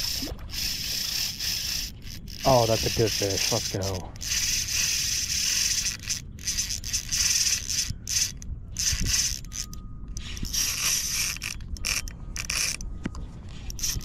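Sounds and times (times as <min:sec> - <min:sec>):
fishing reel drag buzzing: 0:00.0 - 0:12.9, 0:13.5 - 0:14.0.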